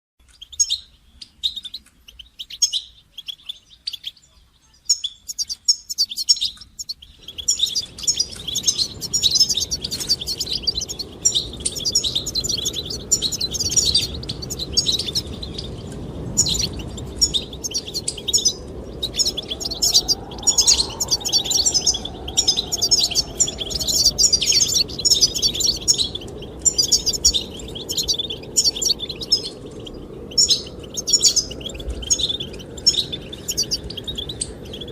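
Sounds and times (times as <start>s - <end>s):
finches twittering: 0.4s - 34.9s
wind noise: 6.5s - 34.9s.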